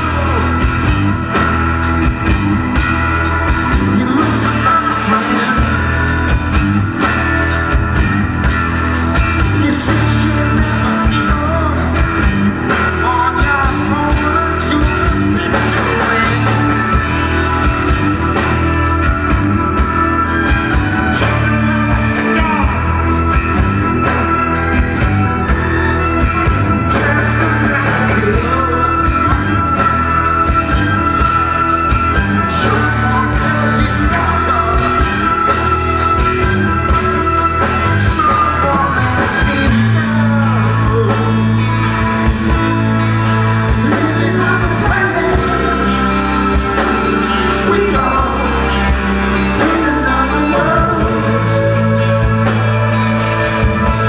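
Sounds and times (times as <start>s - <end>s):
live rock band playing: 0.0s - 54.0s
man singing lead vocals: 0.0s - 54.0s.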